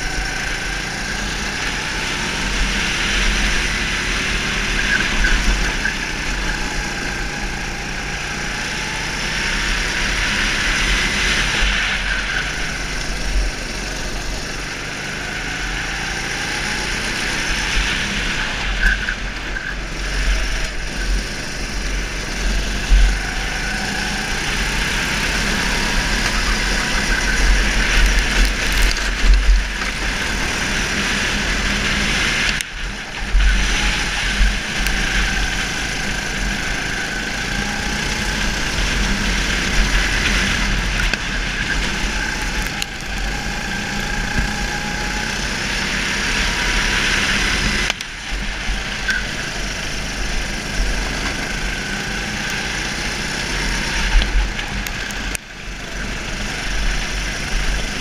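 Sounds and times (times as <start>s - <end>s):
go-kart engine accelerating: 0.0s - 58.0s.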